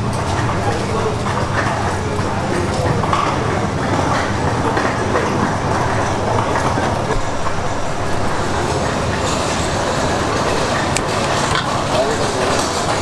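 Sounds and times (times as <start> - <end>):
faint voices: 0.0 - 13.0
market bustle rumble: 0.0 - 13.0.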